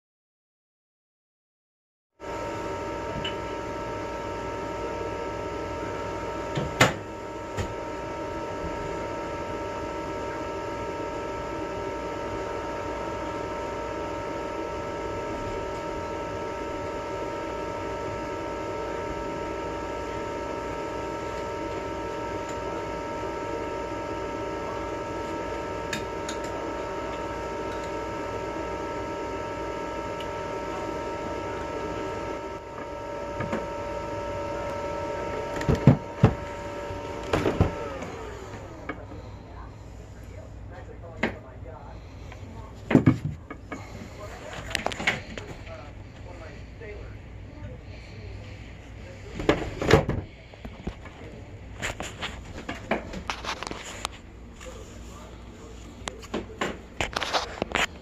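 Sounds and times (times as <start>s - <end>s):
charger fan whirring: 2.2s - 58.0s
whining hum: 2.2s - 58.0s.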